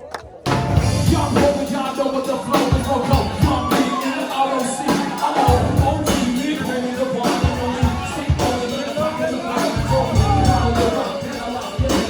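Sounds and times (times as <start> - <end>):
drum beat: 0.0 - 12.0
person singing: 0.0 - 12.0.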